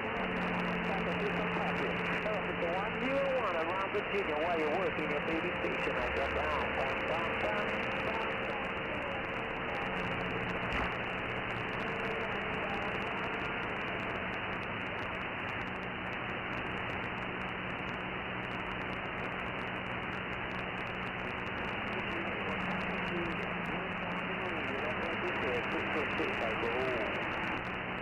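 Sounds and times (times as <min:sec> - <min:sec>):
faint low hum: 0:00.0 - 0:28.0
radio static hiss: 0:00.0 - 0:28.0.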